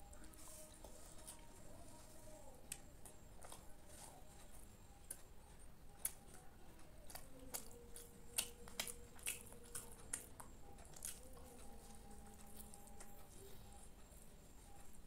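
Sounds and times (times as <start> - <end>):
man chewing food: 0.0 - 15.0.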